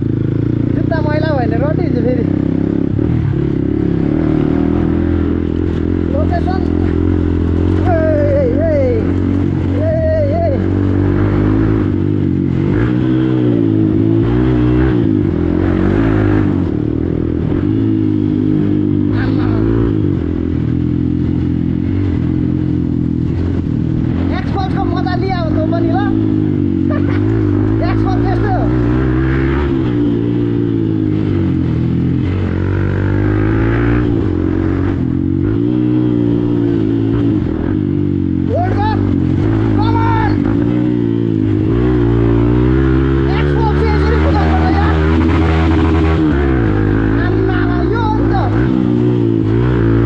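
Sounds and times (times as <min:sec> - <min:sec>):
motorcycle engine at low revs: 0:00.0 - 0:50.0.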